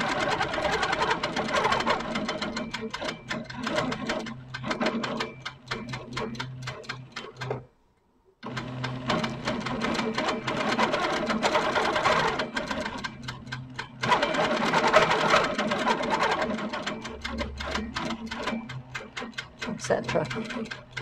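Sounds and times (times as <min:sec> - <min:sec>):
quilting machine stitching: 0:00.0 - 0:07.7, 0:08.4 - 0:21.0.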